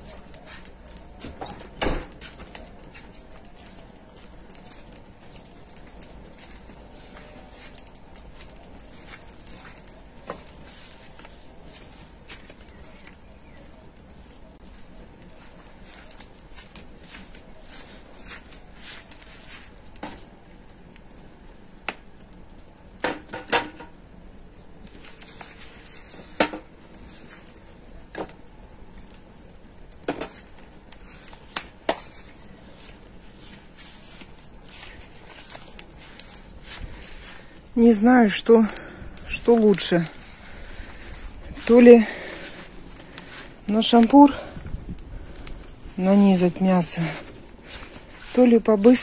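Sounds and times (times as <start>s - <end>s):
firewood crackling and popping: 0.0s - 49.0s.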